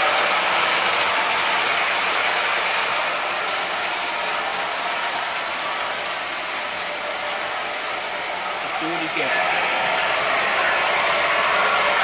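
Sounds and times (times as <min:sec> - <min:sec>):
model train wheels on rails: 0:00.0 - 0:12.0.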